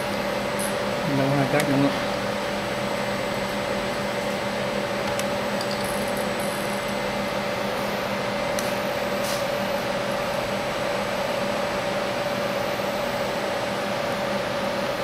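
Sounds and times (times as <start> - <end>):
milling machine humming: 0.0 - 15.0.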